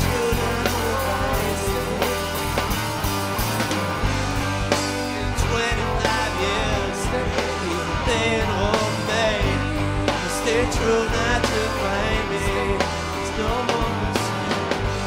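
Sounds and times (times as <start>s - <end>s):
drum and cymbal hits: 0.0s - 15.0s
rock band playing live: 0.0s - 15.0s.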